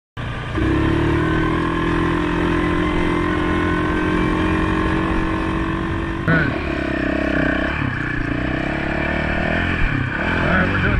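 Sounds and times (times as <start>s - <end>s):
dirt bike engine idling: 0.2s - 10.9s.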